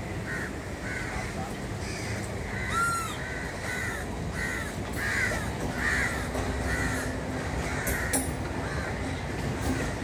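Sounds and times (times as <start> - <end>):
crows cawing: 0.0 - 10.0
train rumbling: 0.0 - 10.0.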